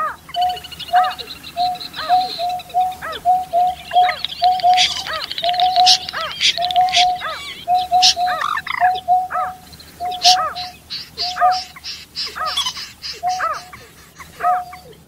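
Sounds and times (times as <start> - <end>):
arched higher bird notes: 0.0 - 15.0
high bird chirping and trilling: 0.0 - 15.0
low hooting bird call: 0.0 - 15.0.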